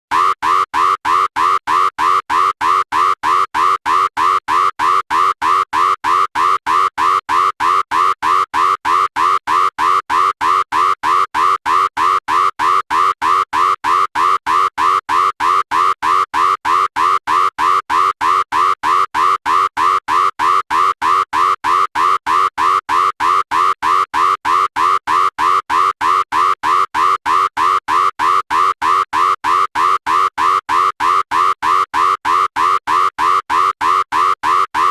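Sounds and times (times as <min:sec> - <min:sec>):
electronic alarm beeping: 0:00.1 - 0:34.9.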